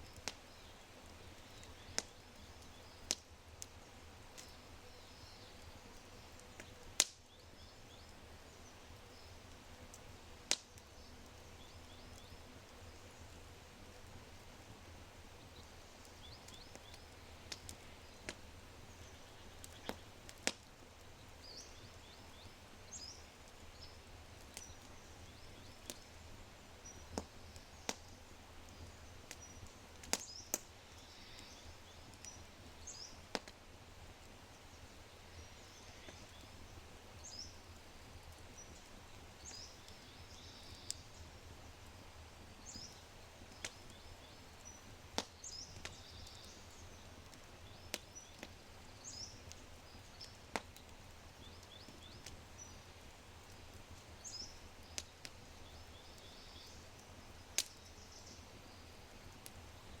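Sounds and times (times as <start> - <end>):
fire crackling and popping: 0.0 - 60.0.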